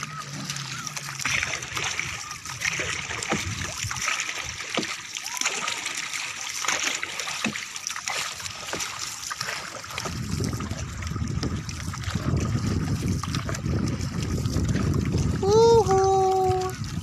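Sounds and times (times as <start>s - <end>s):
water lapping against boat: 0.0s - 17.0s.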